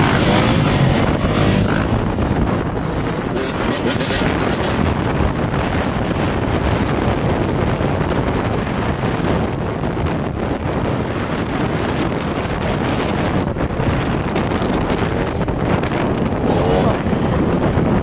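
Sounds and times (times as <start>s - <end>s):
motorcycle engines running: 0.0s - 18.0s
wind buffeting microphone: 0.0s - 18.0s.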